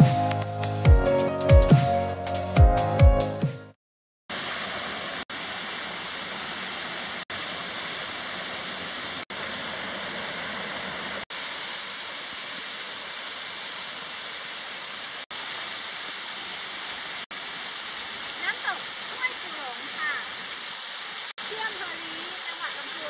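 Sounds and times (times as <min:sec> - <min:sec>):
waterfall rushing: 0:04.3 - 0:23.0.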